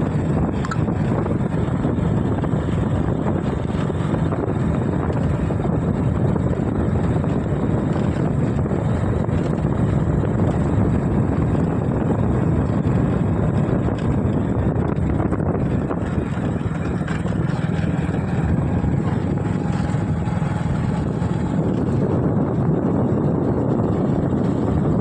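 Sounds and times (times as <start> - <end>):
road and vehicle noise: 0.0 - 25.0
wind buffeting microphone: 0.0 - 25.0.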